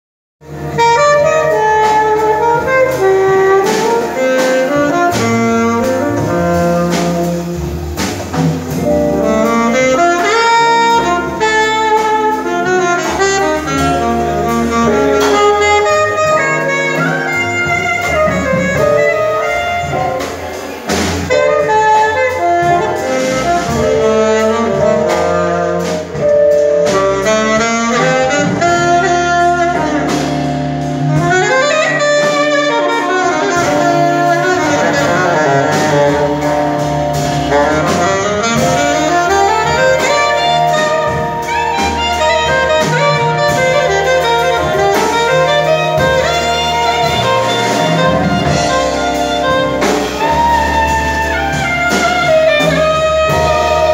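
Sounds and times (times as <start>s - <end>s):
low bass notes: 0.4s - 53.9s
saxophones and brass horns: 0.4s - 53.9s.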